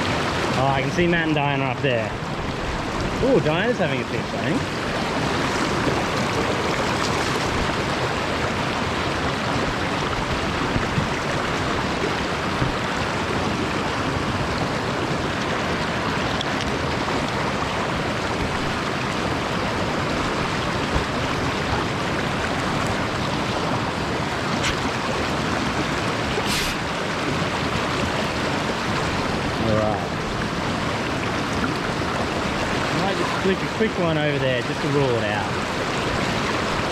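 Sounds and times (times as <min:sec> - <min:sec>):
faint water splashes: 0:00.0 - 0:36.9
mountain stream over stones: 0:00.0 - 0:36.9.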